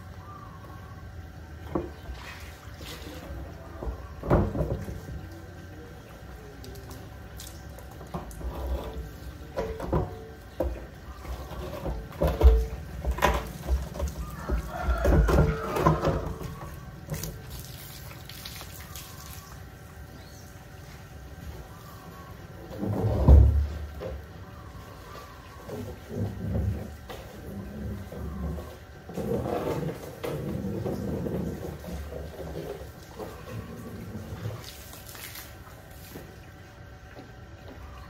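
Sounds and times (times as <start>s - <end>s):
water splashing on plastic drums: 1.7s - 19.7s, 25.2s - 38.0s
water running from a hose: 1.8s - 21.0s, 25.0s - 38.0s.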